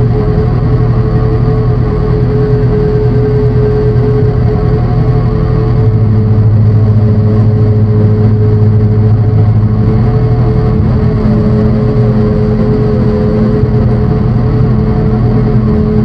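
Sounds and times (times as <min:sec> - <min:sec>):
low synthesizer drone: 0:00.0 - 0:16.0.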